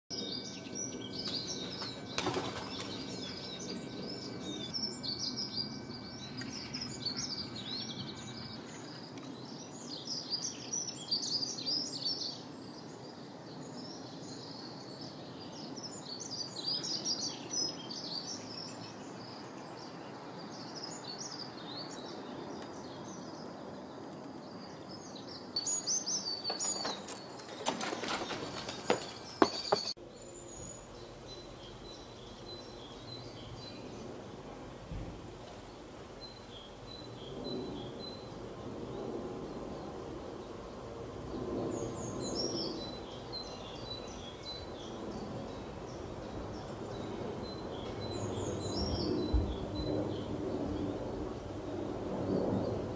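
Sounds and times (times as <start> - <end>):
small birds chirping and singing: 0.1 - 52.9.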